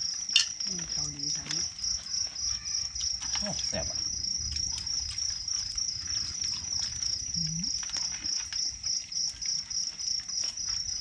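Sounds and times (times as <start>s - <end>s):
crickets trilling: 0.0s - 11.0s
people eating from plates: 0.0s - 11.0s.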